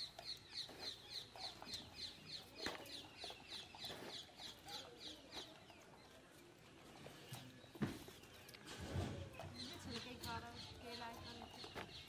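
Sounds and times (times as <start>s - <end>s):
bird peeping: 0.0s - 12.0s.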